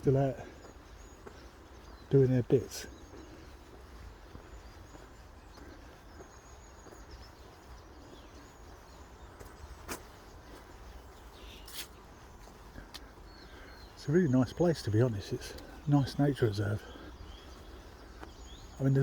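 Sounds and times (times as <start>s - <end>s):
distant high bird calls: 0.0s - 19.0s.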